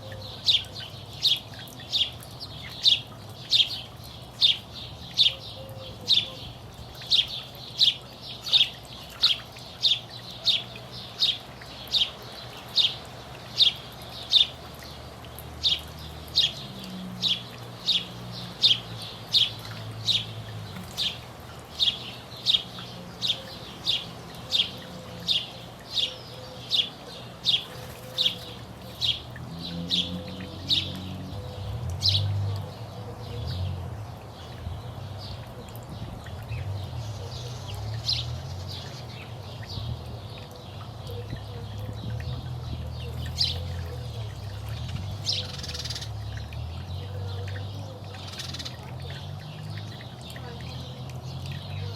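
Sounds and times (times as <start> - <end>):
songbird chirping: 0.0 - 51.9.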